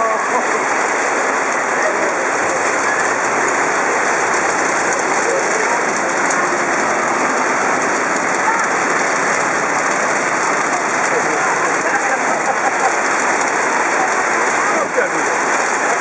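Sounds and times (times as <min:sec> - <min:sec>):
heavy rain on road: 0:00.0 - 0:16.0.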